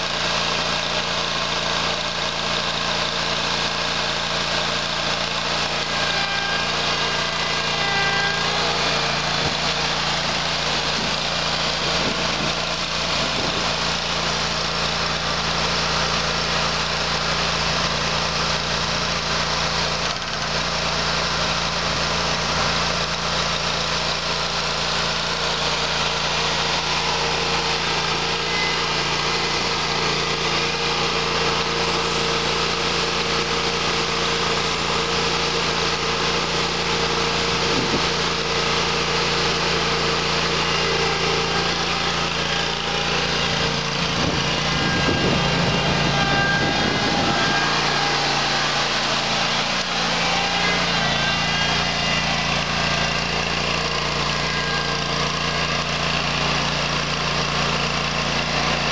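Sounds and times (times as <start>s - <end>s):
mower engine running: 0.0s - 58.9s.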